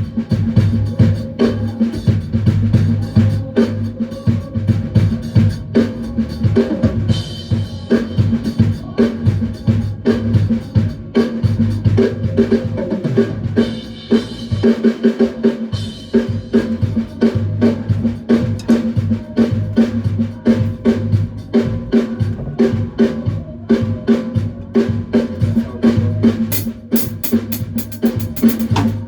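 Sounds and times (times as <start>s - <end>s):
drum kit playing a beat: 0.0s - 29.0s.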